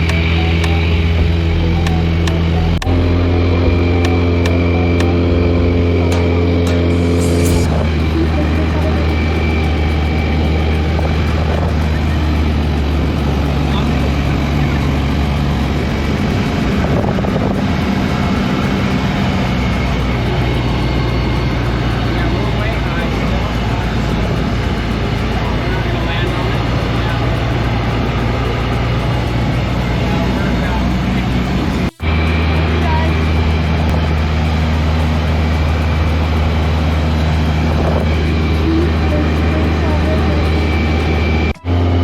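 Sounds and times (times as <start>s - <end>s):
small airplane engine drone: 0.0s - 42.0s.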